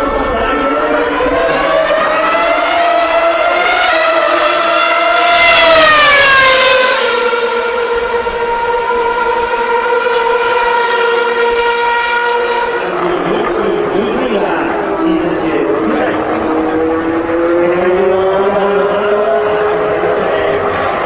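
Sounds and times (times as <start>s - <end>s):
racing car engine at high revs: 0.0s - 21.0s.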